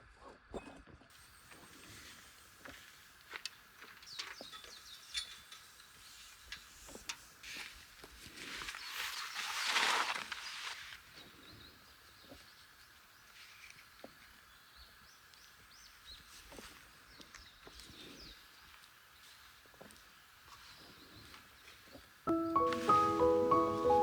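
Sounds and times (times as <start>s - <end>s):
birds chirping faintly: 1.2s - 24.0s.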